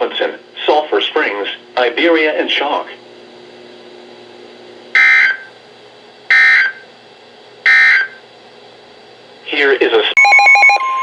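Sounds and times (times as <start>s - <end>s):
faint receiver hum: 0.0s - 9.4s.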